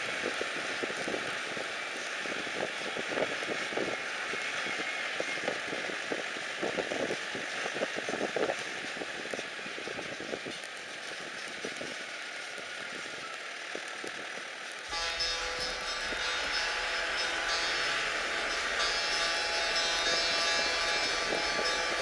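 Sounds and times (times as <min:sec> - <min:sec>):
road and tyre noise: 0:00.0 - 0:22.0.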